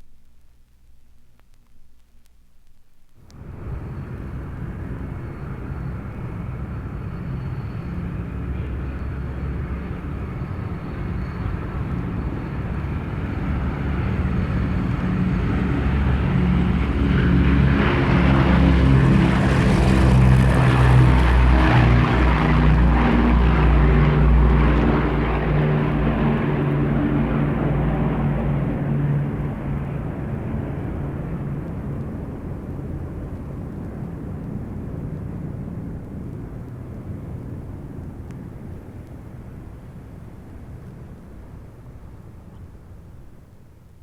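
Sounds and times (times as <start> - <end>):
propeller airplane engine running: 3.2 - 43.5.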